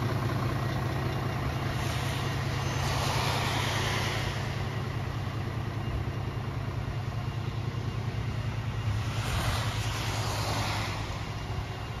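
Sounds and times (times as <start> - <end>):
truck diesel engine running: 0.0 - 12.0
tyres hissing on wet tarmac: 1.5 - 12.0.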